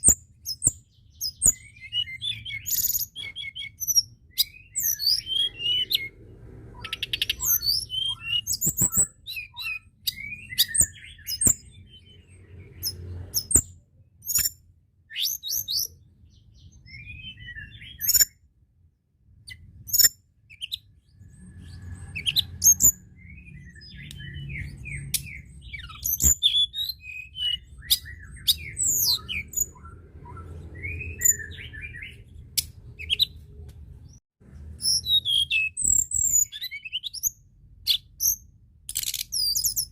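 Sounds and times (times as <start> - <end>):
bird singing high chirps: 0.0 - 18.6, 19.3 - 39.9.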